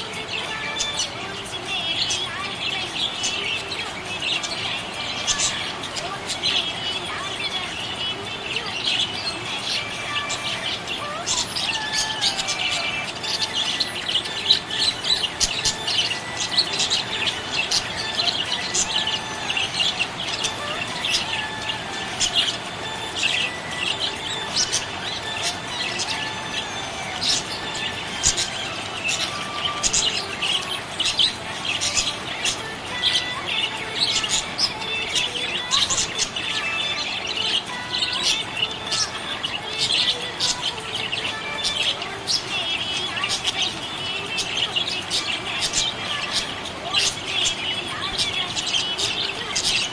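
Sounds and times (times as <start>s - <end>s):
budgerigars chirping: 0.0s - 49.9s.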